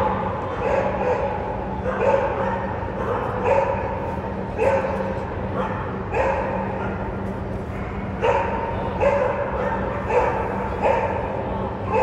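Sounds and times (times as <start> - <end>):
steady low hum: 0.0 - 12.0
dog barking: 0.5 - 4.0, 4.6 - 12.0.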